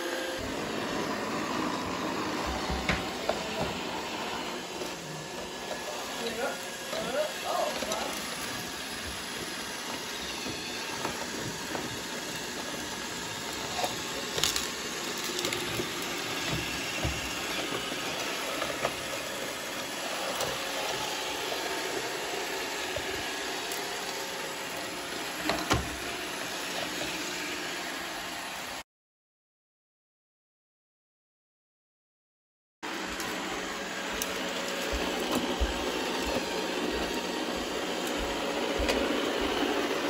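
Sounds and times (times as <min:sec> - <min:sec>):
robot vacuum whirring: 0:00.0 - 0:28.8, 0:32.9 - 0:40.0.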